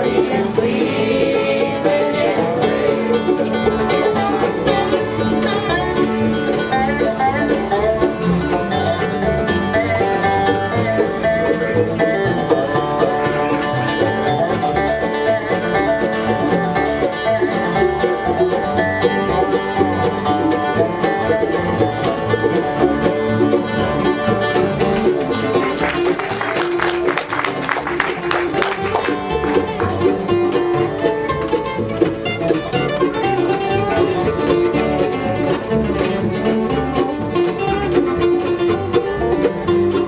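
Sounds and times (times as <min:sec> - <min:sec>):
banjo: 0:00.0 - 0:40.0
fiddle: 0:00.0 - 0:40.0
guitar: 0:00.0 - 0:40.0.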